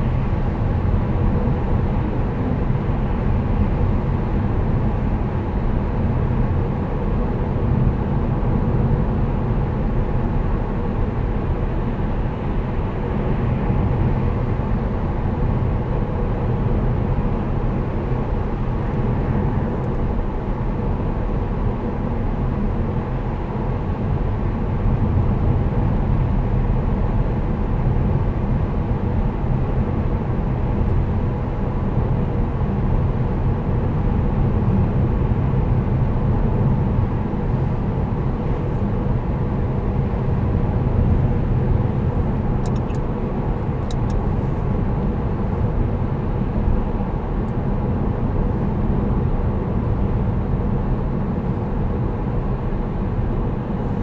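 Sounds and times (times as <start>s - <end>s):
car engine under light load: 0.0s - 54.0s.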